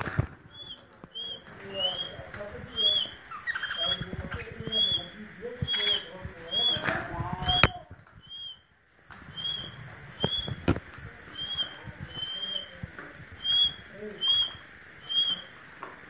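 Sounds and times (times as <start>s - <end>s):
parakeet chirping: 0.5s - 15.7s.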